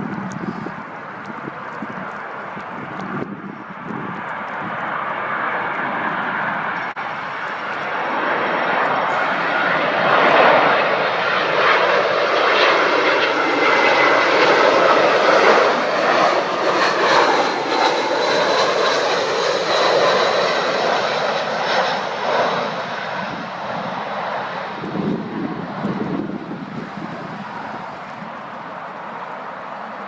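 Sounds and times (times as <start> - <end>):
airliner engines whining: 0.0 - 30.0.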